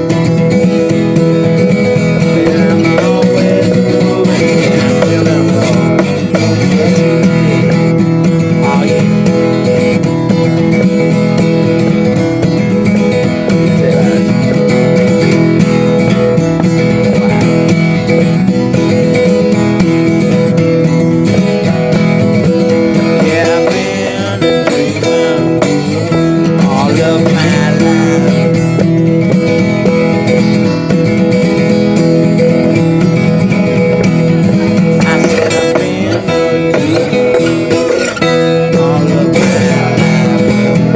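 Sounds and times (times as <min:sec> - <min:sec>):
acoustic guitar country-blues tune: 0:00.0 - 0:40.9.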